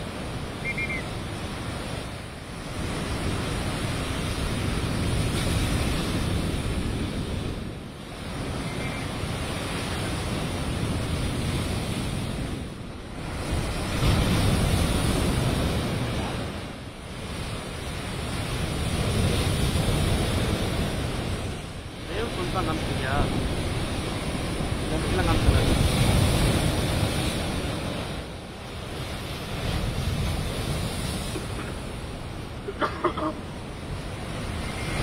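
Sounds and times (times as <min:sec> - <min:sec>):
storm surf breaking over rocks: 0:00.0 - 0:35.0.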